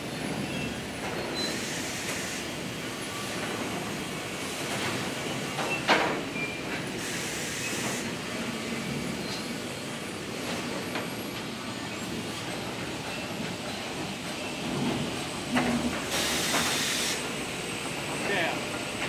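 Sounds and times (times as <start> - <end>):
factory machinery running: 0.0 - 19.0.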